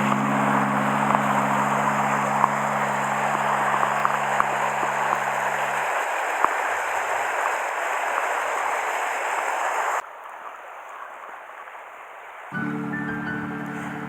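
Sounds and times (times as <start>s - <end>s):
river rapids rushing: 0.0s - 10.0s, 12.6s - 14.0s.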